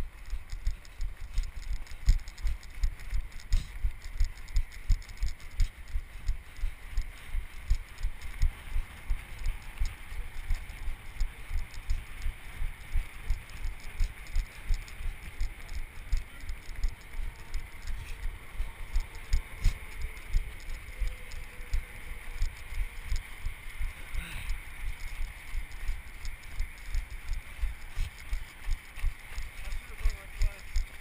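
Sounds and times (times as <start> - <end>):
running footfalls on snow: 0.0 - 31.0.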